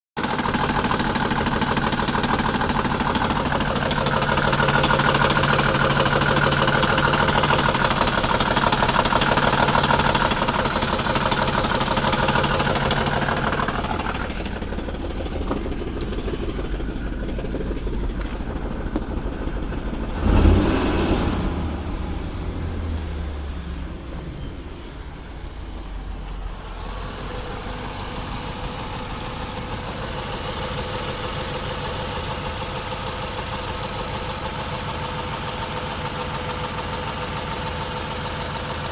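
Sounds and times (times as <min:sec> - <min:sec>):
engine idling roughly: 0:00.2 - 0:38.9.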